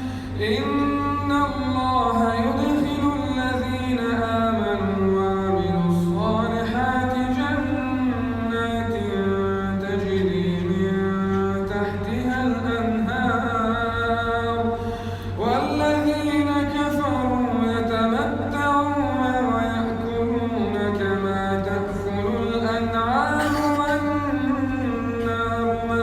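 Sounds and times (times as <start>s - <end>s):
man chanting melodically: 0.0s - 26.0s.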